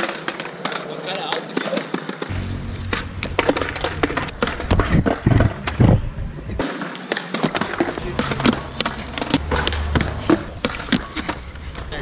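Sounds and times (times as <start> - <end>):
skateboard clacking on concrete: 0.0 - 2.3, 3.3 - 12.0
skateboard scraping on ledge: 0.0 - 12.0.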